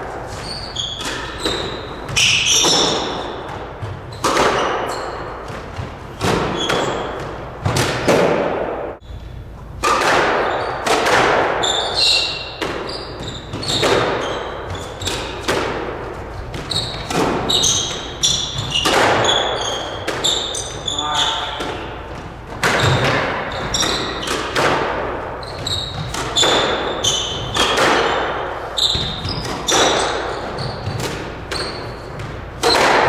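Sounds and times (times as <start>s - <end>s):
squash ball hitting rackets and walls: 0.0s - 33.0s
shoes squeaking on hardwood floor: 0.2s - 7.8s, 10.4s - 10.8s, 11.6s - 32.8s.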